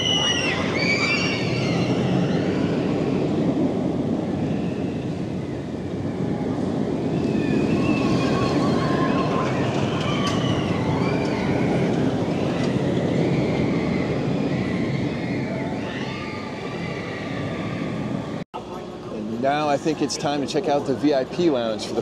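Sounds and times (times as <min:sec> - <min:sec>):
roller coaster train rumbling: 0:00.0 - 0:22.0.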